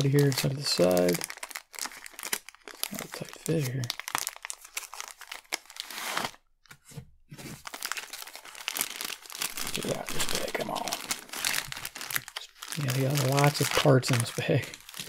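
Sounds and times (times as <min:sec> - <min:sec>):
plastic bag crinkling: 0:00.0 - 0:06.3, 0:07.4 - 0:15.0.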